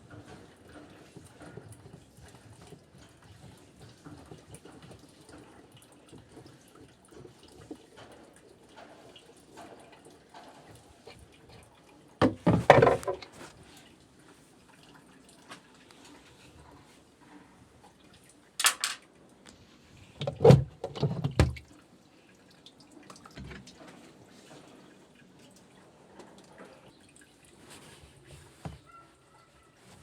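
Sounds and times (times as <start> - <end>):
water dripping and splashing: 0.0 - 17.2, 20.9 - 29.4.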